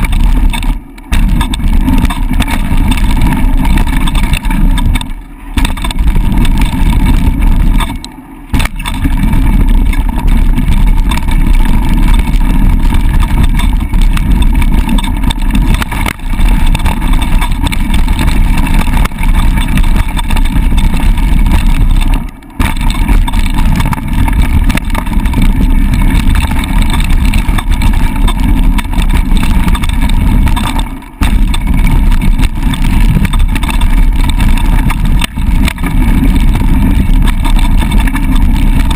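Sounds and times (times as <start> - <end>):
bike tyres rattling over gravel: 0.0 - 38.9
wind buffeting microphone: 0.0 - 38.9.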